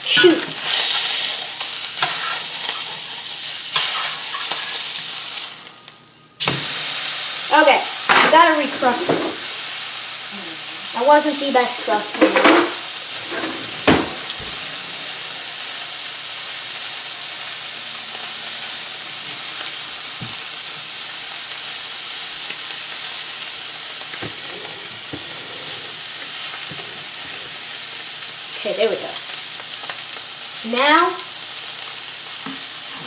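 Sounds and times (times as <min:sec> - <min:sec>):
steak sizzling in a pan: 0:00.0 - 0:33.0.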